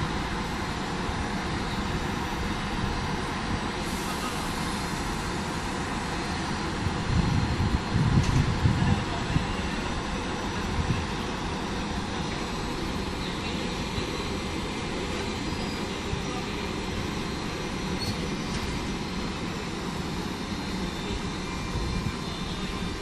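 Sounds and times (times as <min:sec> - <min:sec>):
electric locomotive fans humming: 0:00.0 - 0:23.0.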